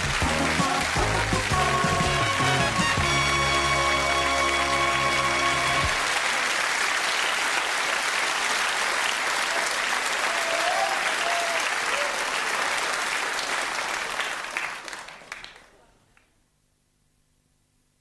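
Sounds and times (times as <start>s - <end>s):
studio audience applauding: 0.0s - 16.3s.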